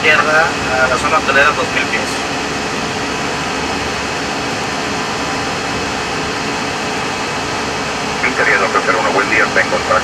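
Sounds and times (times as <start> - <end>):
air conditioning: 0.0 - 10.0
aircraft engine noise: 0.0 - 10.0
airflow rush: 0.0 - 10.0.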